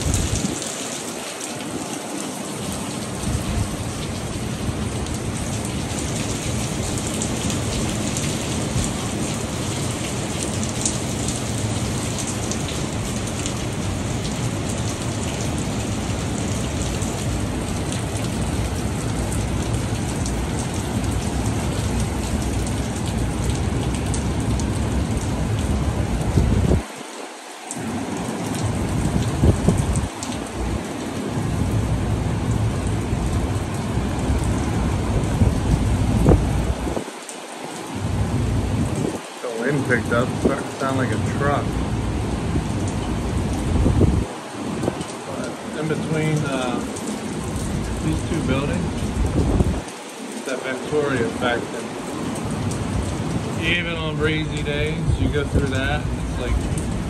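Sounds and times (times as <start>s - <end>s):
wind buffeting microphone: 0.0s - 0.7s, 2.6s - 27.0s, 28.5s - 37.1s, 37.9s - 45.2s, 46.3s - 49.9s, 52.1s - 57.0s
wind and rain: 0.0s - 57.0s.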